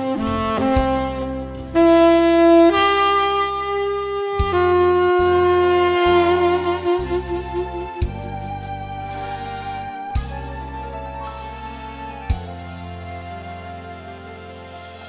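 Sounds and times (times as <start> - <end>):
backing accompaniment: 0.0 - 15.0
tenor saxophone melody: 0.0 - 15.0.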